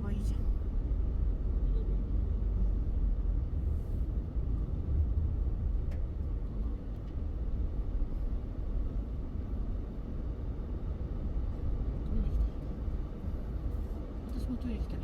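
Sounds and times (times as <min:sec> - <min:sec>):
car rumbling slowly: 0:00.0 - 0:15.0.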